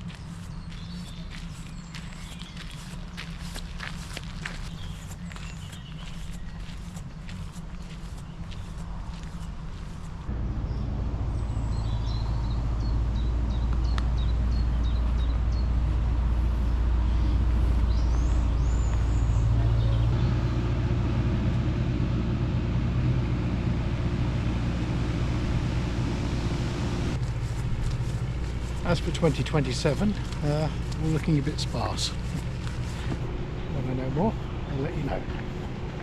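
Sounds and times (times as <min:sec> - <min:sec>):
small birds chirping: 0:00.0 - 0:20.4, 0:27.2 - 0:36.0
engine running low rumble: 0:00.0 - 0:36.0.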